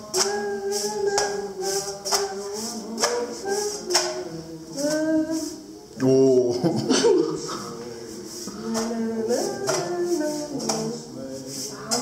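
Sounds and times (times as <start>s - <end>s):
background music with steady beat: 0.0s - 5.9s, 7.7s - 12.0s.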